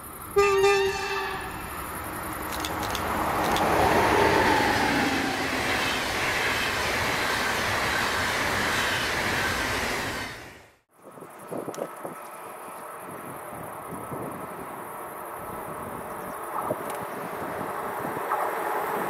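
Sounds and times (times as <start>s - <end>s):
train wheels rushing on rail: 0.0s - 10.8s, 12.1s - 19.0s.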